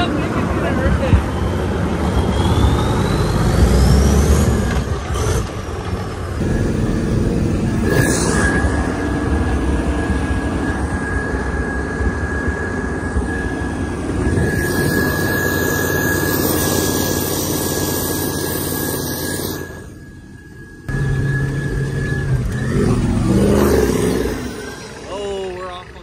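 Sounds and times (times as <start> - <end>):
high whine: 0.0 - 26.0
truck engine rumble: 0.0 - 26.0.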